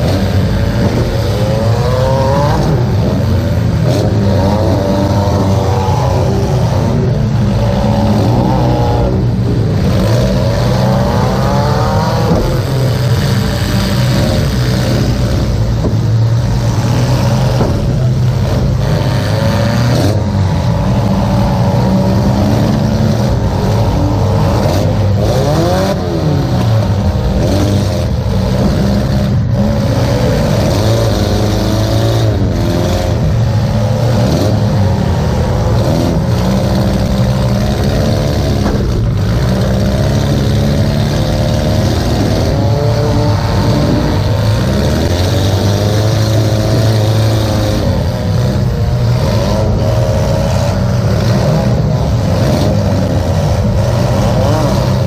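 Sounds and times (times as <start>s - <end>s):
car engine revving: 0.0s - 55.0s
steady low drone: 0.0s - 55.0s.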